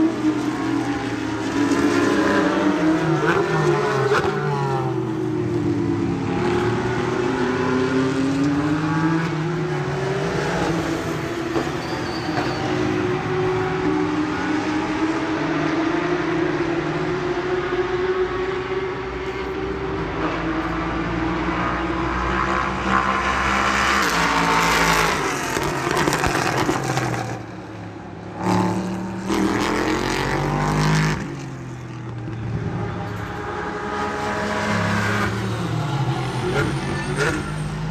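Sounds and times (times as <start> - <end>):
race car engines passing: 0.0 - 37.9.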